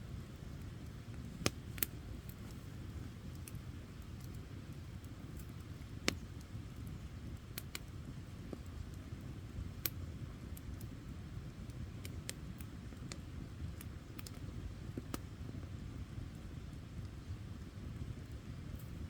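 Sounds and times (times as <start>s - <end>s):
campfire flames rumbling: 0.0s - 19.0s
fire crackling and popping: 0.0s - 19.0s.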